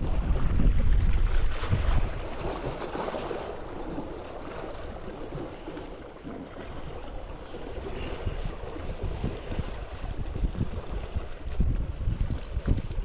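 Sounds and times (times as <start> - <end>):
wind on microphone: 0.0 - 5.8, 6.5 - 13.0.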